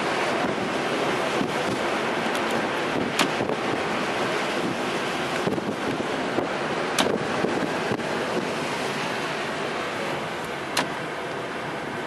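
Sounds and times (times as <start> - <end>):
wind buffeting microphone: 0.0 - 11.2
surf breaking against seawall: 0.0 - 11.8.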